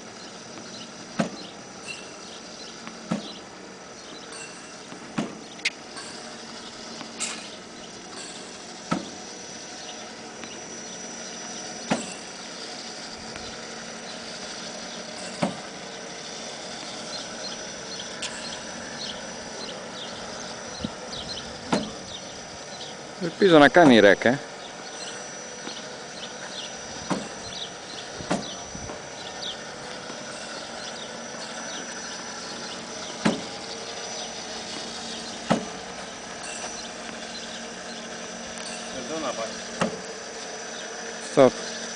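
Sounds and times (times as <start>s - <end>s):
machine humming: 0.0s - 41.9s.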